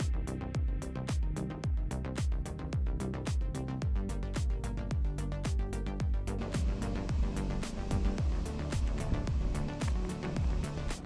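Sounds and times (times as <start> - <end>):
deep kick drum: 0.0 - 11.0.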